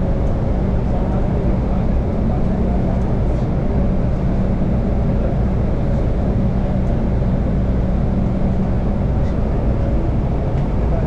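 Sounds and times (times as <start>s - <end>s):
vehicle rumble and hum: 0.0s - 11.0s.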